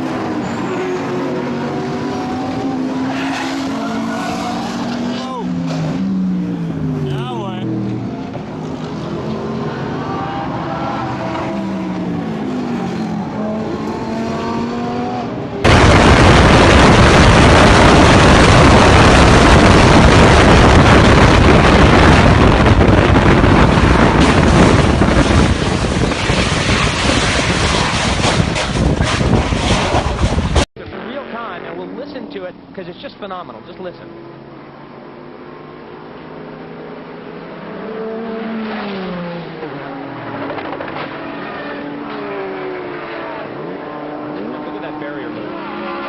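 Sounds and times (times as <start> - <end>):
car engines revving: 0.0 - 46.0
race car engine rushing: 0.0 - 46.0.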